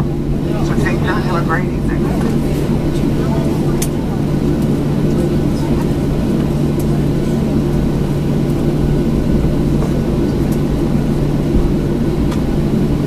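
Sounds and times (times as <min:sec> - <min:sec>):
jet engines idling: 0:00.0 - 0:13.0.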